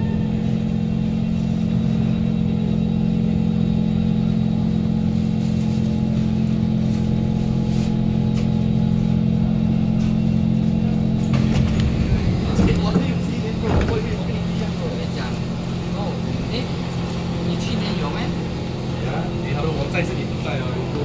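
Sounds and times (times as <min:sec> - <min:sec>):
low hum of stationary train: 0:00.0 - 0:21.0.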